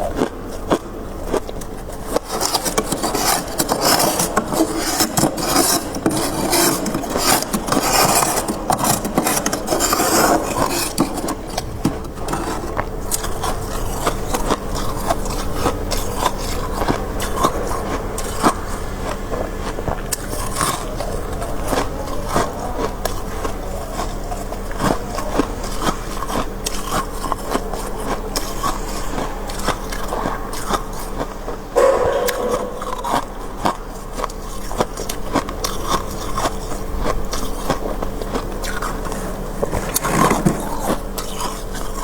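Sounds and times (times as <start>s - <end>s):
steady low hum: 0.0s - 42.0s
frost scraping: 1.5s - 42.0s.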